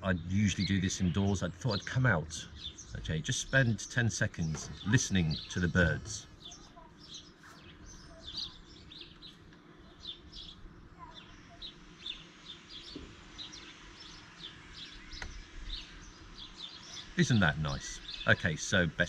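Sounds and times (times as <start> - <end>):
birds chirping: 0.0 - 19.0
faint low background hum: 0.0 - 19.0.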